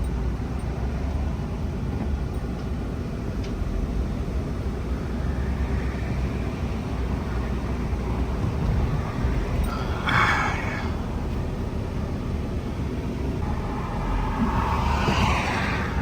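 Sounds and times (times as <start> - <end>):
pickup truck engine rumbling: 0.0 - 16.0.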